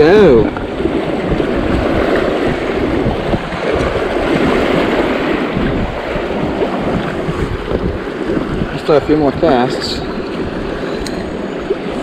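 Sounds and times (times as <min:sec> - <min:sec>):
rushing creek water splashing: 0:00.0 - 0:12.0
wind rumbling on microphone: 0:00.0 - 0:12.0.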